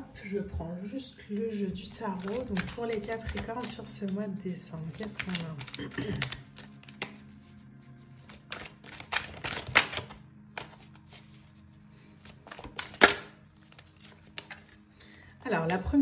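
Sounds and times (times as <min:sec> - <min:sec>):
faint background music: 0:00.0 - 0:16.0
cards being shuffled: 0:01.8 - 0:14.9.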